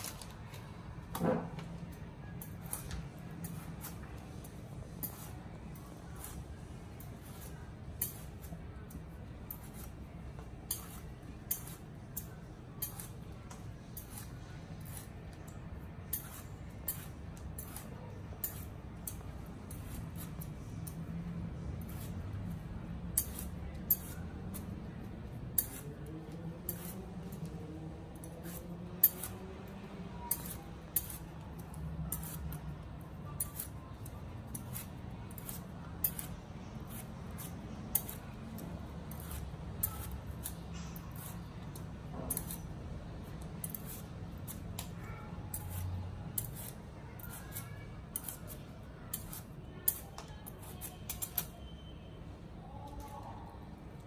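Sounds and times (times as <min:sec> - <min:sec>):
peeler cutting fruit skin: 0:04.9 - 0:51.7.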